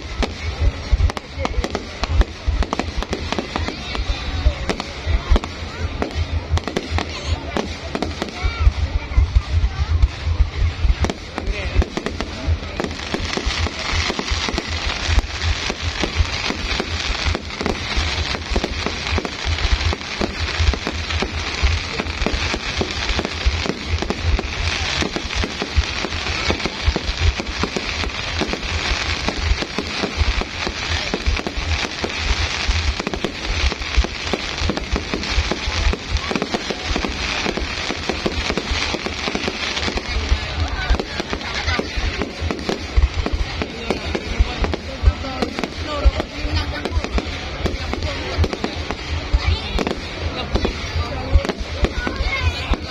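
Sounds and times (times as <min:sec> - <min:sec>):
fireworks crackling and popping: 0:00.0 - 0:52.9
fireworks low booms: 0:00.0 - 0:52.9.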